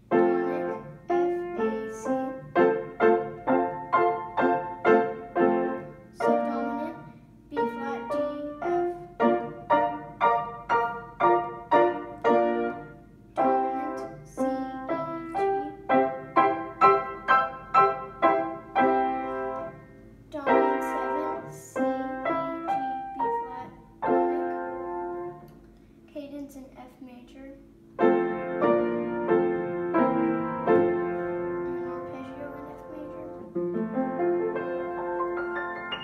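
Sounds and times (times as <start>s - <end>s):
upright piano playing: 0.0s - 25.6s, 27.8s - 36.0s.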